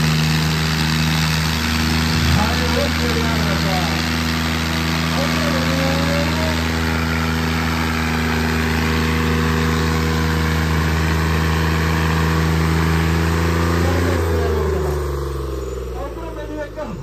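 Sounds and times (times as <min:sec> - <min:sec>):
tractor engines droning under load: 0:00.0 - 0:17.0.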